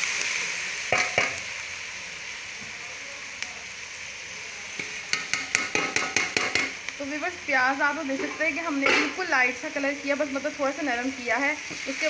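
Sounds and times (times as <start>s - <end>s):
onions sizzling in a pot: 0.0s - 12.0s.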